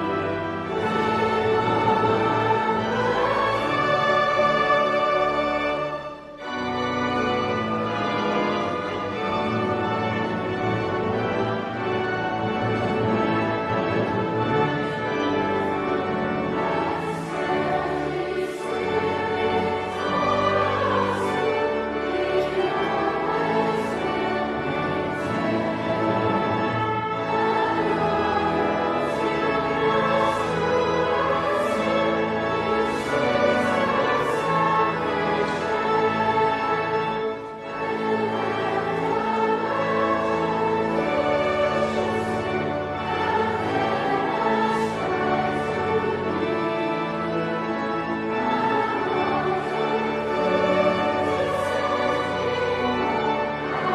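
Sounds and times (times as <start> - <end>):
voices singing with vibrato: 0.0 - 6.4, 10.2 - 53.9
orchestra: 0.0 - 53.9.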